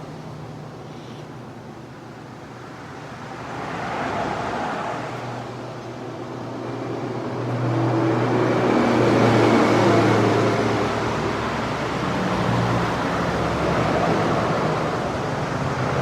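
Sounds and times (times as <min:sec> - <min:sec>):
cars passing on road: 0:00.0 - 0:16.0.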